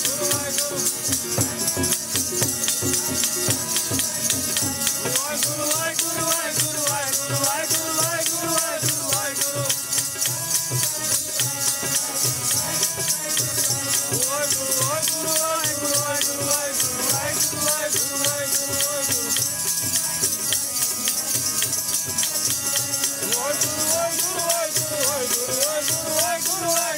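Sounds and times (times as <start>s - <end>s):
person singing devotional melody: 0.0s - 26.9s
rhythmic percussion: 0.0s - 26.9s.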